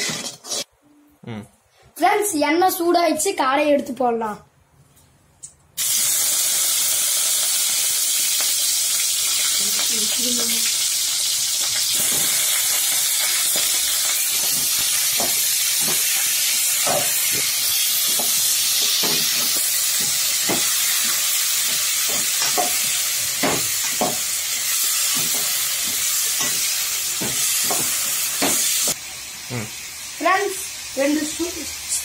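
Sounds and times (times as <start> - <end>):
meat frying in hot oil: 5.8 - 32.0.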